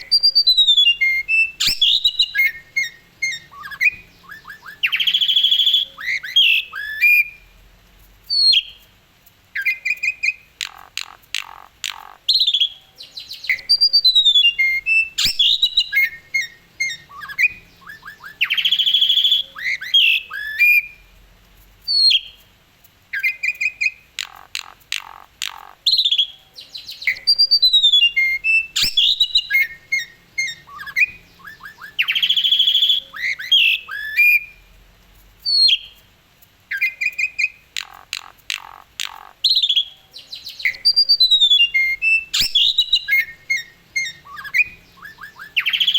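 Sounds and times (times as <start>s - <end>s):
starling singing: 0.0s - 7.5s, 9.6s - 21.0s, 23.1s - 34.7s, 36.7s - 45.9s.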